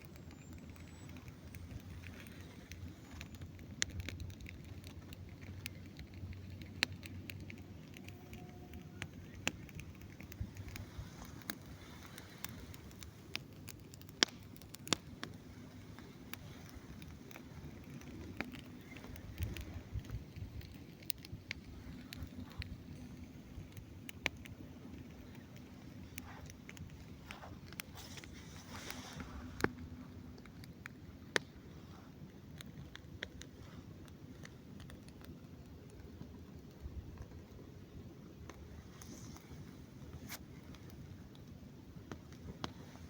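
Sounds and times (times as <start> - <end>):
campfire crackling: 0.0 - 43.0
low steady rumble: 0.0 - 43.0.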